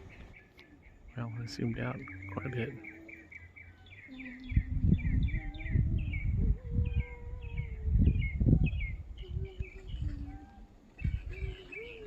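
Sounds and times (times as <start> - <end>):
songbird chirping: 0.0 - 12.0
wind buffeting microphone: 0.0 - 12.0.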